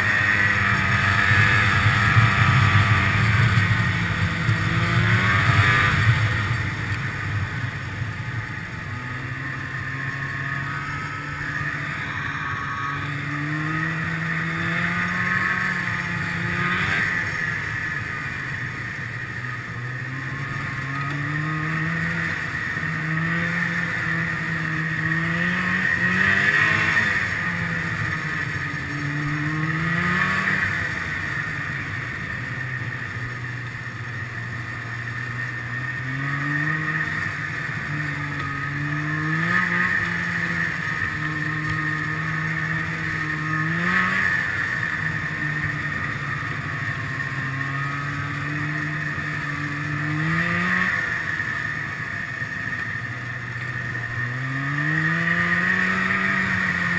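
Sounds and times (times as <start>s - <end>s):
high whine and rushing: 0.0s - 56.9s
snowmobile engine revving: 0.0s - 56.9s.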